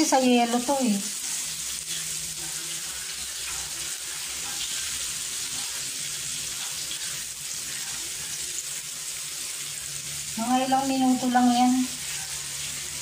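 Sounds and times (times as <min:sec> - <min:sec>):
meatballs sizzling in oil: 0:00.0 - 0:13.0.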